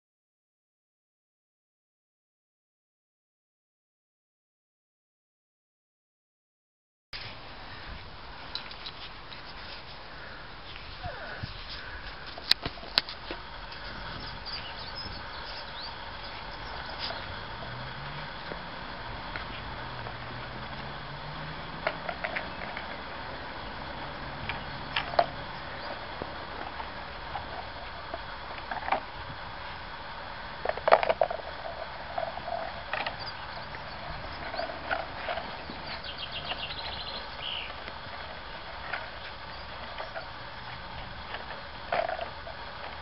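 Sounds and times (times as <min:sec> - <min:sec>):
steady background hiss: 0:07.2 - 0:43.0.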